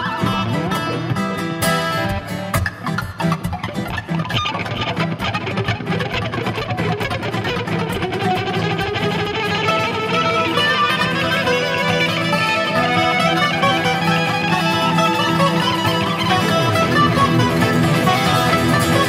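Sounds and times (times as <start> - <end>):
electric guitar playing: 0.0 - 19.0
ten-string guitar plucking: 0.0 - 19.0.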